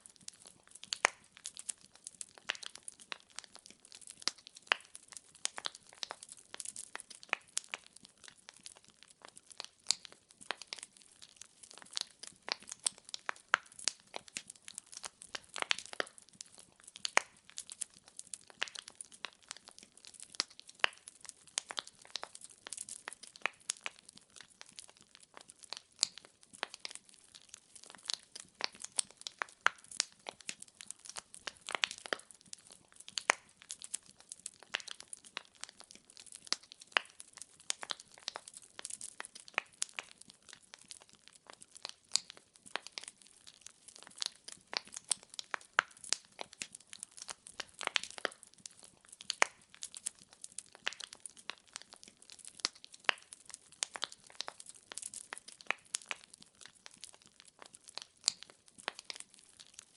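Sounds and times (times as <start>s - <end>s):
faint steady hiss: 0.0s - 56.3s
burning logs popping: 0.0s - 59.9s
wood fire crackling: 0.0s - 59.9s.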